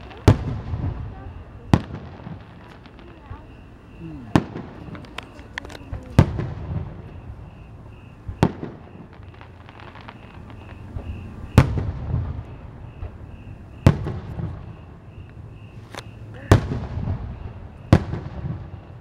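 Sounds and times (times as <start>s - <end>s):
firework booms: 0.0s - 19.0s.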